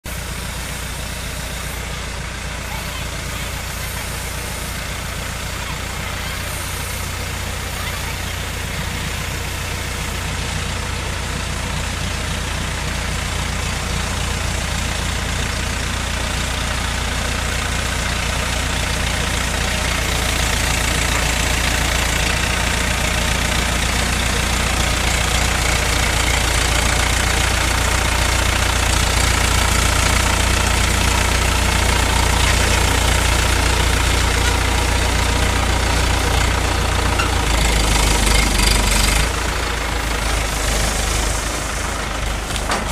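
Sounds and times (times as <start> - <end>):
diesel engine rumbling: 0.0 - 42.9.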